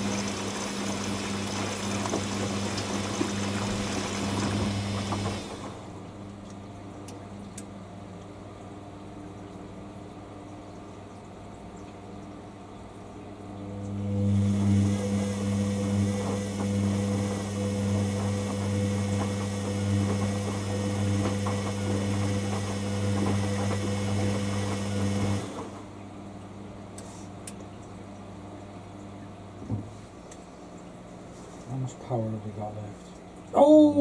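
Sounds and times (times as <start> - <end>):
washer dryer running: 0.0 - 34.0.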